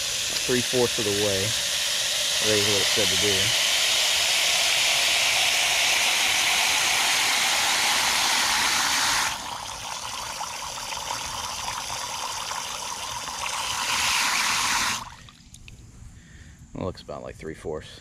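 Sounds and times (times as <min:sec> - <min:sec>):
hose water splashing into metal can: 0:00.0 - 0:15.5.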